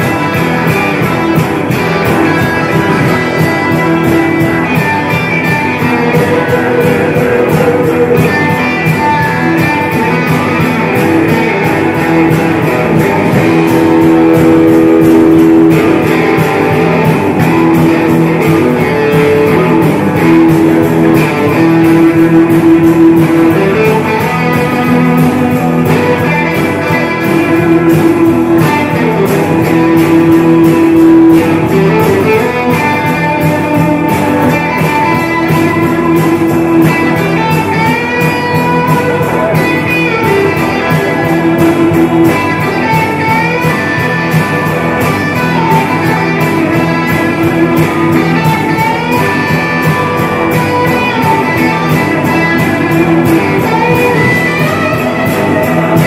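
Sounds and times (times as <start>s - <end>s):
electric guitar: 0.0s - 56.0s
steady drum beat: 0.0s - 56.0s.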